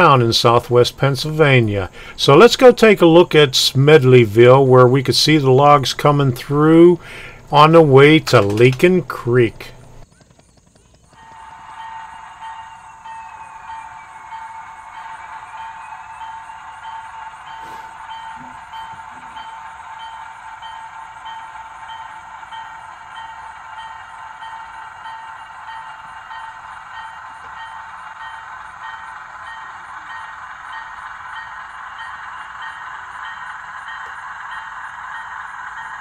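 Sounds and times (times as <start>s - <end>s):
model train running whine: 0.0s - 36.0s.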